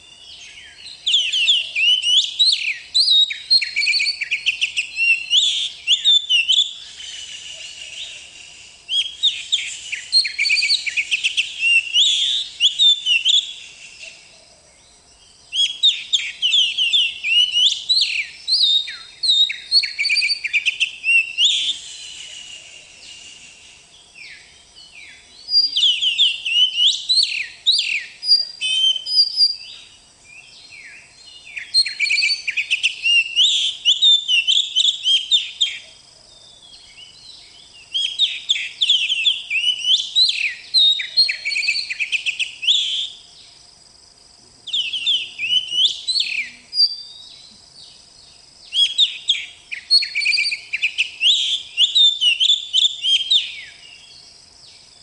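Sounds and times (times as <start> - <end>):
bird singing whistled phrases: 0.0 - 14.2, 15.5 - 35.9, 36.6 - 43.2, 44.7 - 47.5, 48.6 - 54.1.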